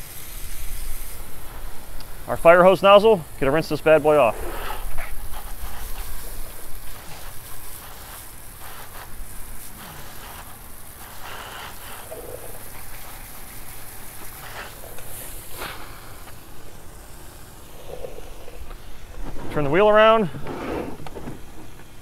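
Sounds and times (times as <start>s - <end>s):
hose water splashing on wheel: 0.0s - 22.0s.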